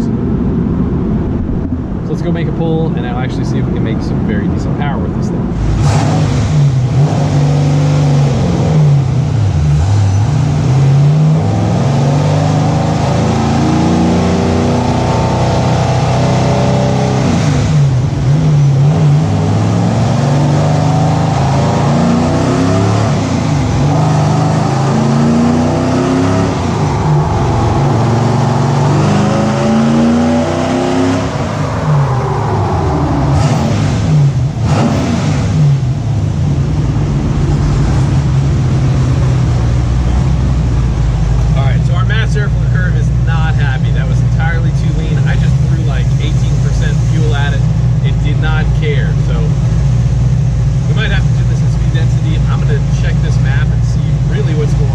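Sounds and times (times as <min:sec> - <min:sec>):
engine revving under load: 0:00.0 - 0:54.9.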